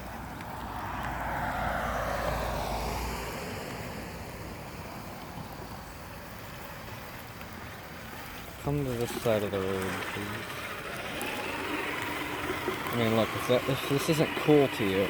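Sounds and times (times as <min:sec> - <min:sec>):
water rushing and splashing: 0:00.0 - 0:15.0.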